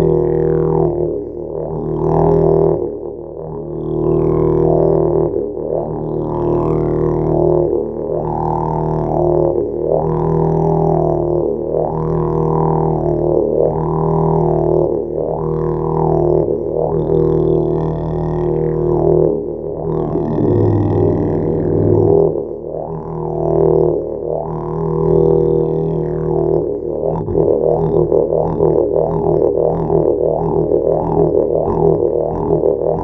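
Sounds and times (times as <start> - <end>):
didgeridoo low drone: 0.0 - 33.0.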